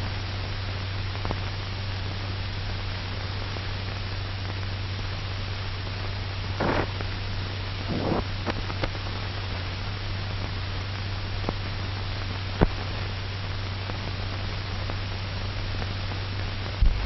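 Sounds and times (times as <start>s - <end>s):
film soundtrack hiss and hum: 0.0s - 17.0s.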